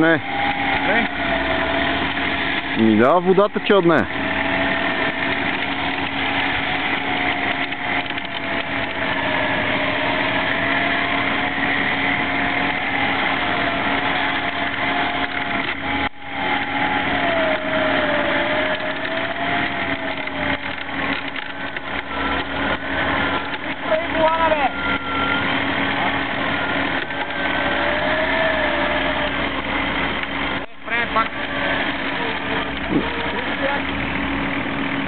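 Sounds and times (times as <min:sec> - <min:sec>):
suv engine running hard: 0:00.0 - 0:35.0.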